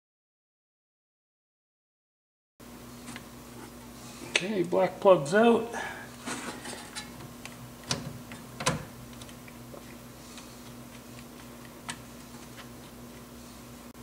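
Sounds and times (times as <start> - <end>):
steady low hum: 2.6 - 14.0.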